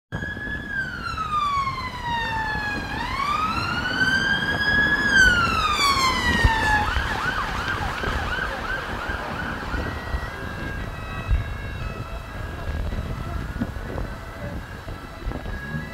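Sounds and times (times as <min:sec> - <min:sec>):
police siren wailing and yelping: 0:00.1 - 0:15.9.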